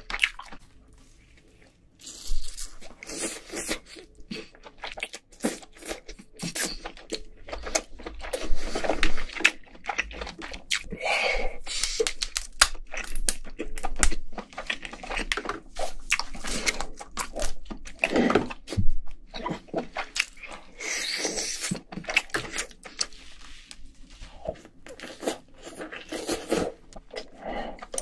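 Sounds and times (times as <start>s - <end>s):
chewing: 1.2s - 11.0s, 11.7s - 28.0s.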